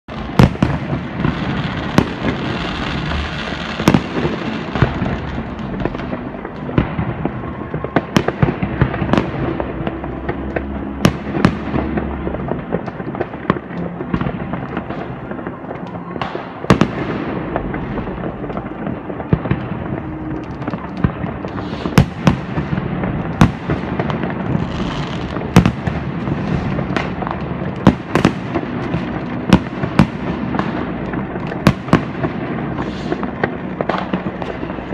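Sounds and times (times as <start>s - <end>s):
firecrackers crackling: 0.0s - 34.9s
fireworks bangs: 0.1s - 34.9s.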